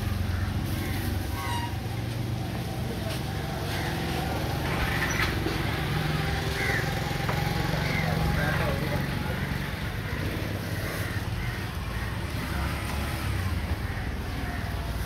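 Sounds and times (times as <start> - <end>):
faint voices: 1.4 - 15.0.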